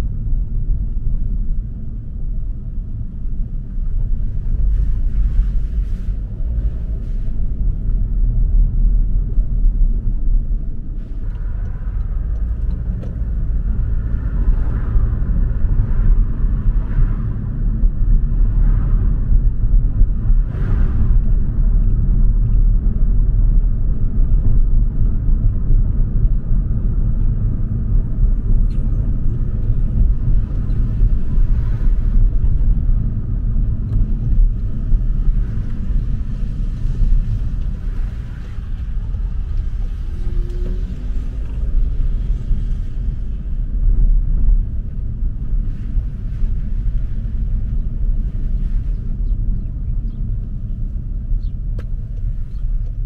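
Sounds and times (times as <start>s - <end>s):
car engine rumble: 0.0s - 53.0s
road noise: 0.0s - 53.0s.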